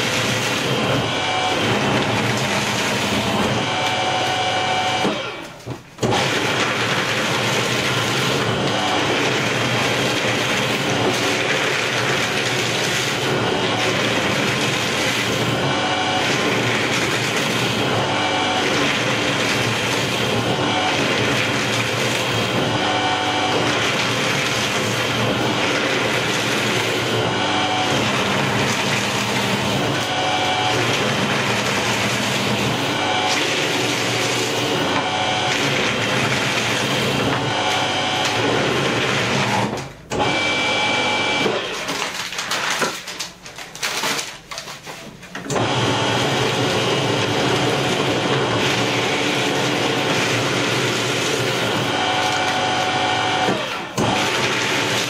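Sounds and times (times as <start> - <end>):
paper shredder cutting paper: 0.0 - 55.0.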